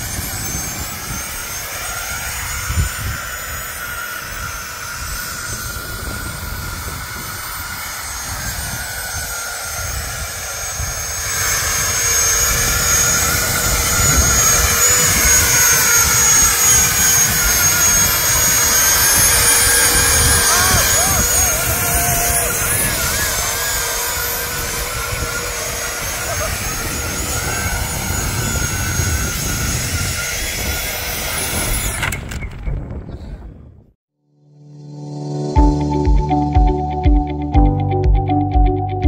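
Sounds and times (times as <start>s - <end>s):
electric ducted fans whining: 0.0s - 33.6s
wind rumble on microphone: 0.0s - 34.0s.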